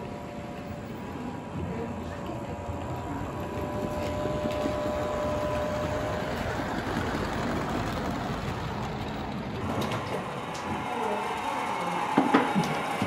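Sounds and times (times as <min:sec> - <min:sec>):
model train rumbling on track: 0:00.0 - 0:13.0.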